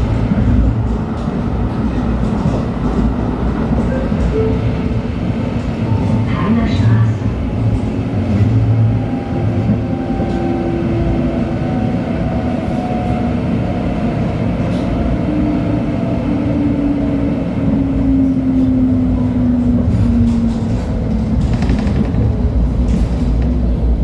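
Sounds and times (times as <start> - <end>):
light-rail car running on track: 0.0 - 24.0.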